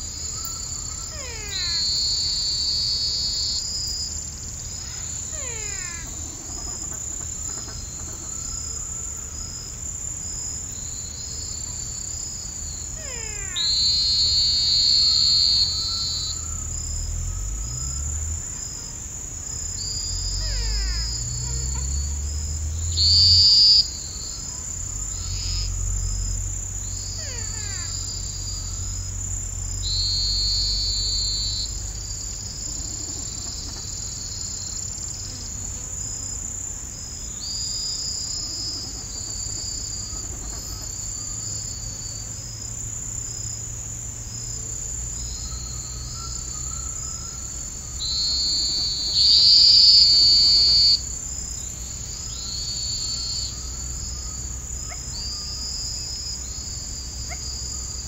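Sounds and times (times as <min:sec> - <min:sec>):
buzzy insect calls: 0:00.0 - 0:58.0
cricket trill: 0:00.0 - 0:58.0.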